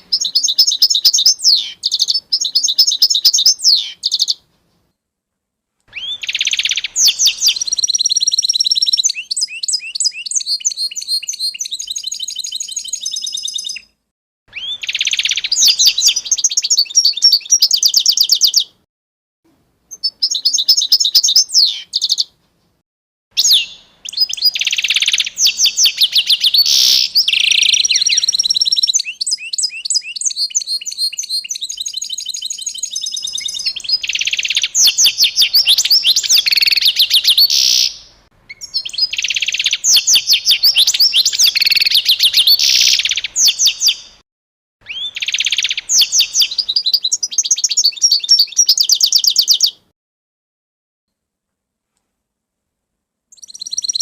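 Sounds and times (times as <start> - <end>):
songbird singing chirping trills: 0.0 - 5.0, 5.9 - 18.8, 19.9 - 22.4, 23.4 - 44.2, 44.8 - 49.9, 53.3 - 54.0.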